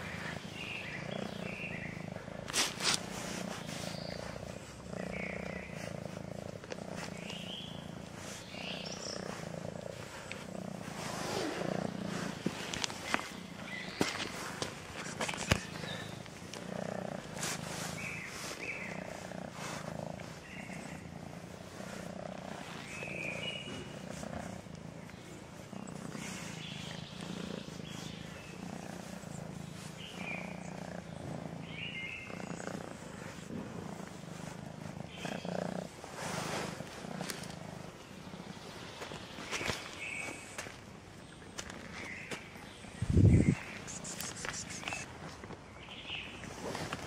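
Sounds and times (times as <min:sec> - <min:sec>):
cat purring: 0:00.0 - 0:47.0.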